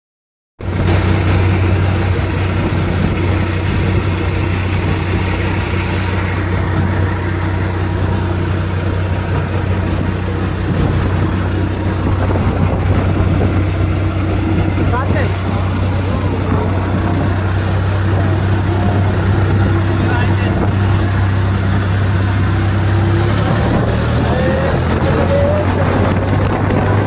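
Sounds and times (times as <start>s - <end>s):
tractor diesel engine running: 0.6s - 27.0s.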